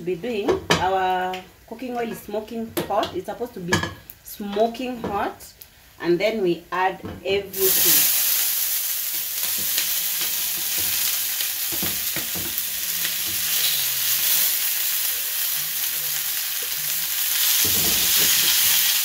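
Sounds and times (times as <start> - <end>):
vegetables sizzling in oil: 0.3 - 19.0.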